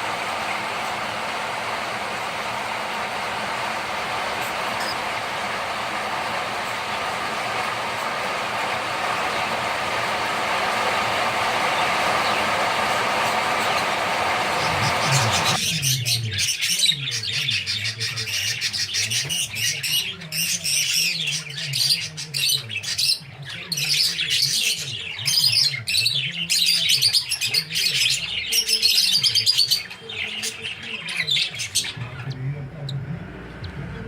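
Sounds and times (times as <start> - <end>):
pet birds chirping: 0.0 - 33.8.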